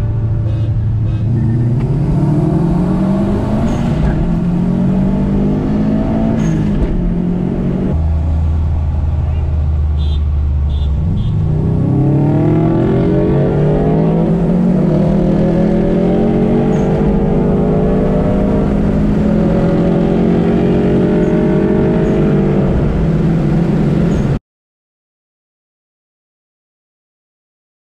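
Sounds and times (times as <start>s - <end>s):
car engine accelerating: 0.0s - 24.4s.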